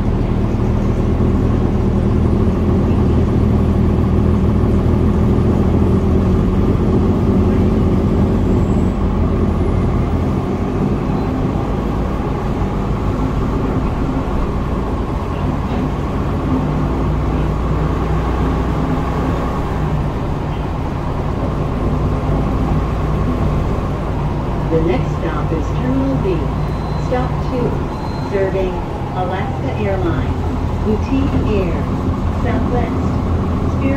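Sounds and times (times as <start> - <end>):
bus engine and road rumble: 0.0 - 33.9.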